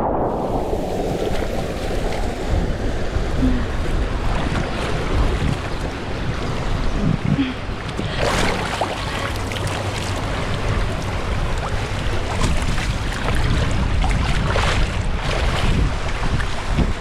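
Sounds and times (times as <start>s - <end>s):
water rushing and splashing: 0.0s - 17.0s
wind buffeting microphone: 0.0s - 17.0s.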